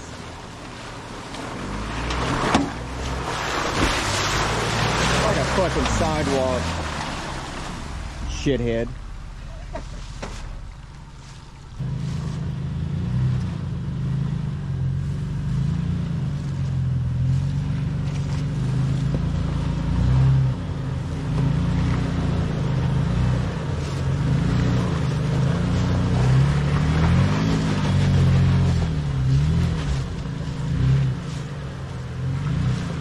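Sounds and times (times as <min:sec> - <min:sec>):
engine revving off-road: 0:00.0 - 0:33.0.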